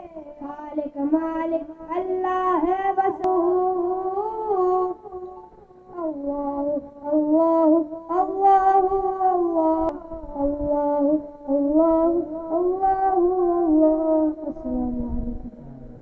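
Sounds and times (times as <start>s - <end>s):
person singing a hymn over loudspeakers: 0.0s - 16.0s.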